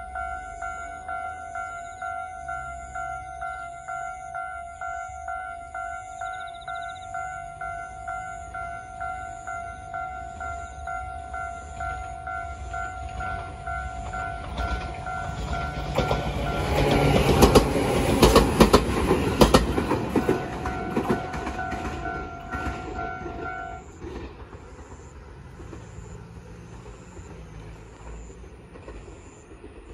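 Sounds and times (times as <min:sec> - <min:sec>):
level crossing alarm ringing: 0:00.0 - 0:24.1
train wheels clacking: 0:05.4 - 0:29.9.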